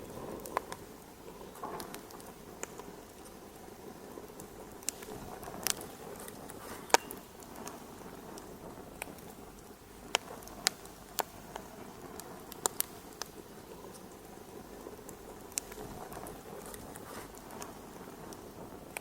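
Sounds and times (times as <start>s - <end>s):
fire crackling and popping: 0.0s - 19.0s
low steady hiss: 0.0s - 19.0s.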